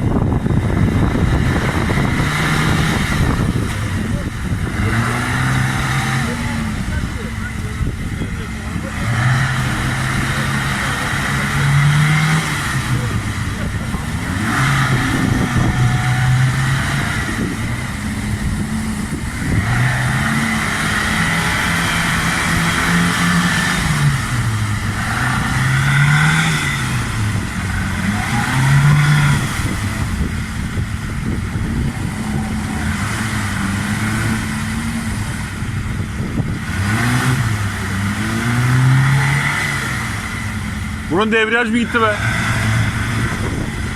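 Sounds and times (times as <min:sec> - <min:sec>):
engine revving up and down: 0:00.0 - 0:43.9.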